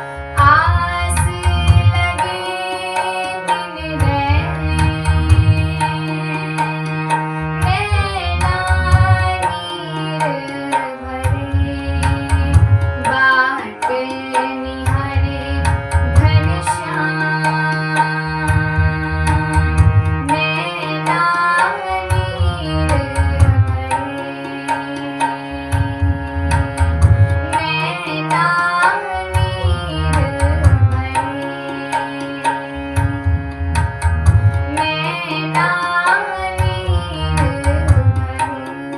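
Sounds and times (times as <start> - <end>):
held drone notes: 0.0 - 38.9
ornamented sliding melody: 0.0 - 38.9
tabla rhythm: 0.0 - 38.9.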